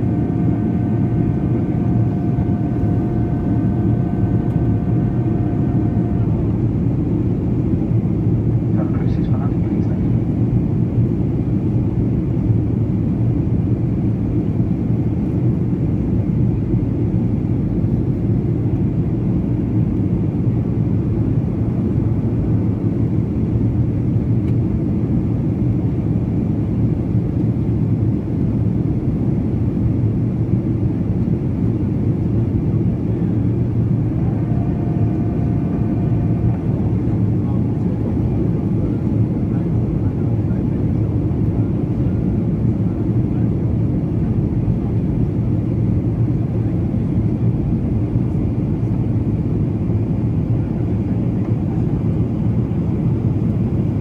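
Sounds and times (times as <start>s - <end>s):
airliner engines rumbling: 0.0s - 54.0s.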